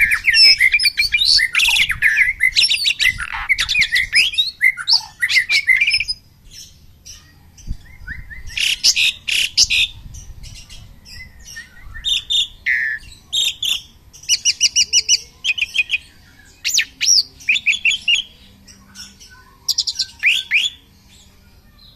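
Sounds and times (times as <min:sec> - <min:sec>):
songbirds chirping and whistling: 0:00.0 - 0:21.9.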